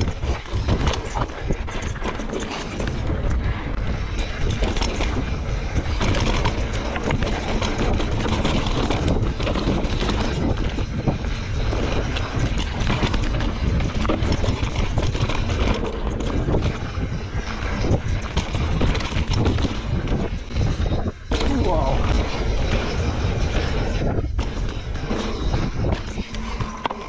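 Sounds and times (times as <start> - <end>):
bike clicks and rattles: 0.0 - 27.0
bike tyres rolling over dirt and stone: 0.0 - 27.0
wind rumble on microphone: 0.0 - 27.0.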